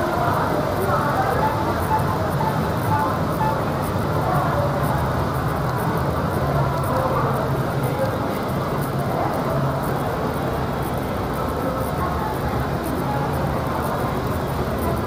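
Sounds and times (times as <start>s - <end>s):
faint distant voices: 0.0s - 15.0s.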